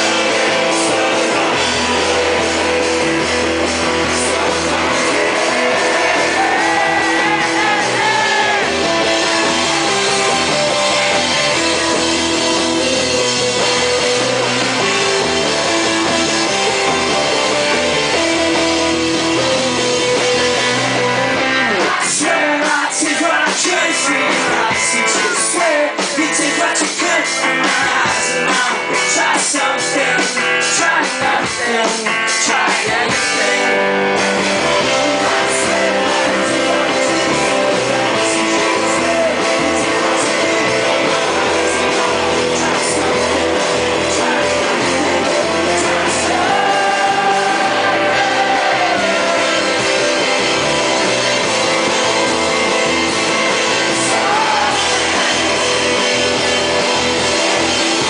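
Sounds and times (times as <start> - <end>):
drums: 0.0 - 58.0
electric guitars: 0.0 - 58.0
person singing: 0.0 - 58.0.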